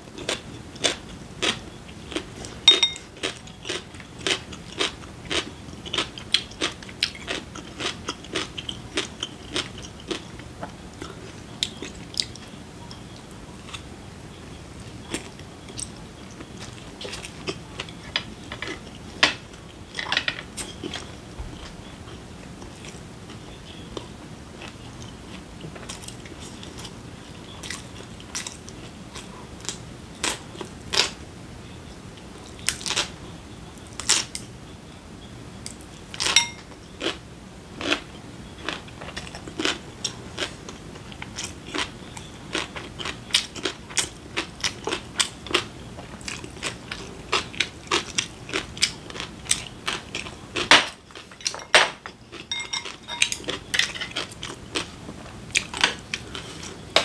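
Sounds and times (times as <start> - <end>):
person chewing crunchy food: 0.1 - 31.2, 32.4 - 33.1, 35.7 - 37.2, 37.8 - 57.0.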